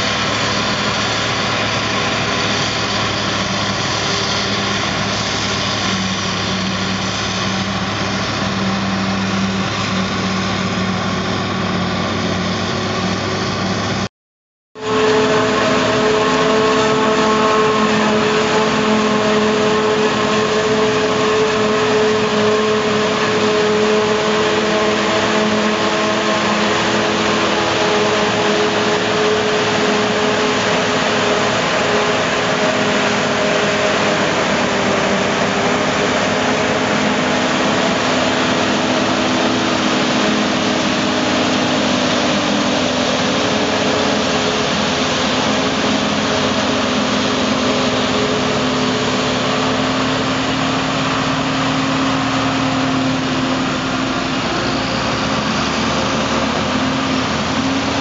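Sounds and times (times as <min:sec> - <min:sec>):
forage harvester droning: 0:00.0 - 0:14.1, 0:14.8 - 0:58.0
tractor diesel engine: 0:00.0 - 0:14.1, 0:14.8 - 0:58.0.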